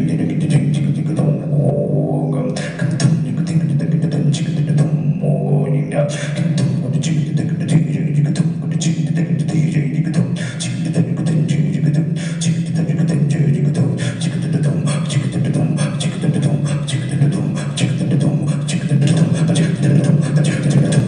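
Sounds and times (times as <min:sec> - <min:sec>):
steady low tone: 0:00.0 - 0:21.0.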